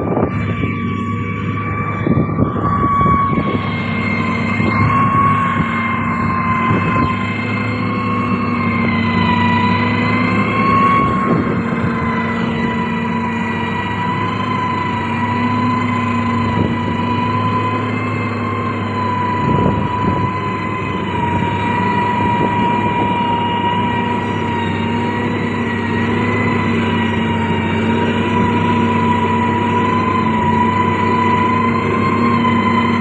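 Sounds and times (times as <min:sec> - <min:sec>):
diesel engine drone: 0:00.0 - 0:33.0
high whine: 0:00.0 - 0:33.0.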